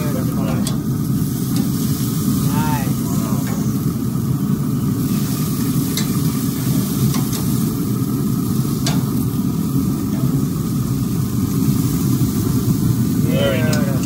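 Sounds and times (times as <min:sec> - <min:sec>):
steady low rumble: 0:00.0 - 0:14.0
steaks sizzling on a grill: 0:00.0 - 0:14.0.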